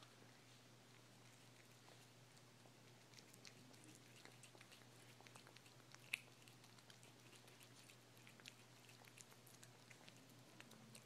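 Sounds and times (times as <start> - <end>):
cat chewing food: 0.8 - 11.0.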